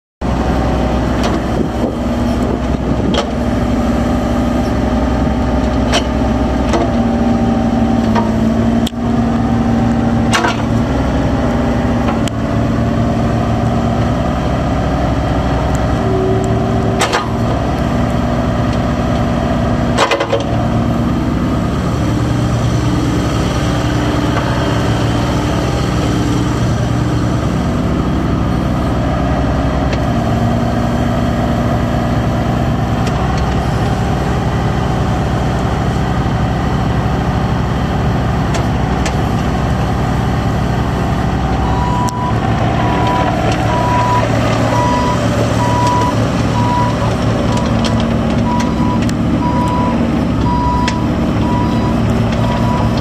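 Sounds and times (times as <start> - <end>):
excavator diesel engine running: 0.2 - 53.0.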